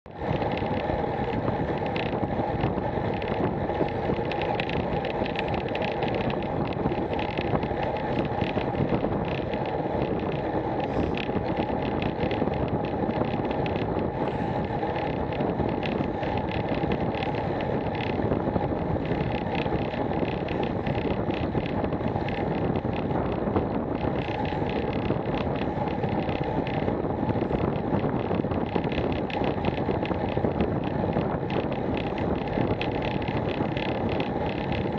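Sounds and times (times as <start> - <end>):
bicycle tyre road noise: 0.1 - 34.9
wind buffeting microphone: 0.1 - 34.9.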